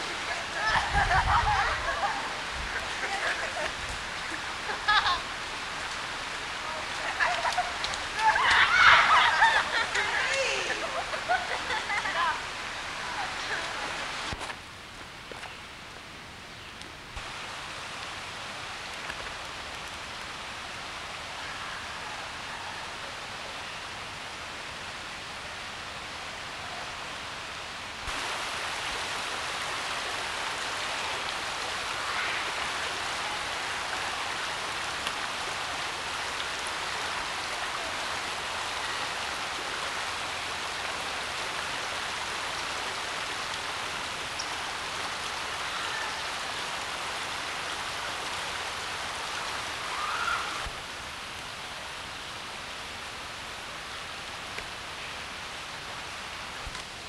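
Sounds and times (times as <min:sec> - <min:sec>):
rocky river running over stones: 0:00.0 - 0:16.0, 0:17.1 - 0:57.0.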